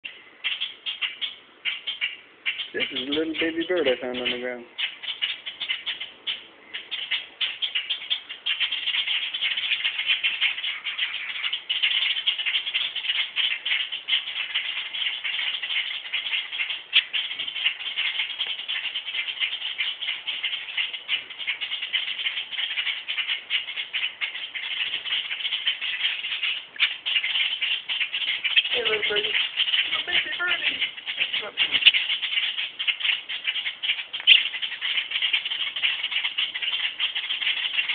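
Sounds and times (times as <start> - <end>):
birds alarm chatter: 0.0 - 37.9.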